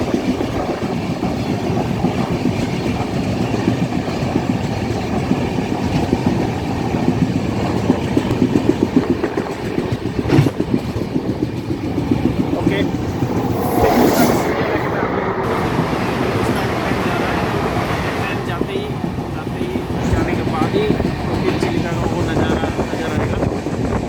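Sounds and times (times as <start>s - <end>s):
rhythmic train clatter: 0.0s - 13.7s, 14.5s - 24.0s
train wheels rumbling on rails: 0.0s - 24.0s.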